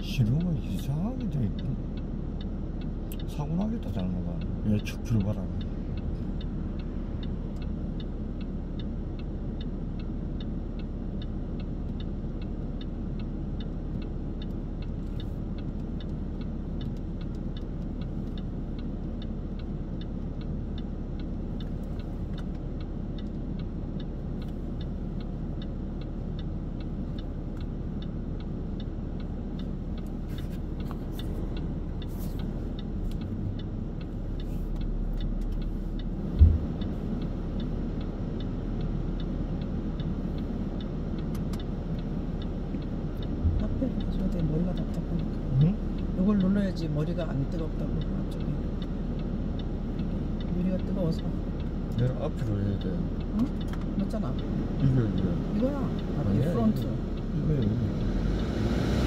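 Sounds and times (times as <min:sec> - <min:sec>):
car engine idling: 0:00.0 - 0:58.5
turn signal ticking: 0:00.0 - 0:59.0.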